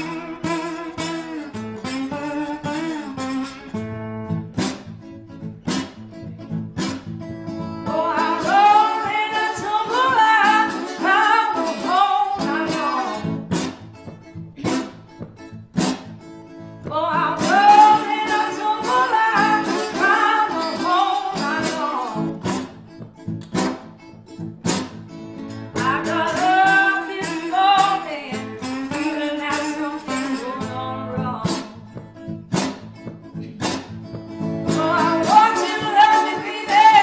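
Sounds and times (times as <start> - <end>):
acoustic guitar: 0.0 - 37.0
person singing blues: 0.0 - 37.0.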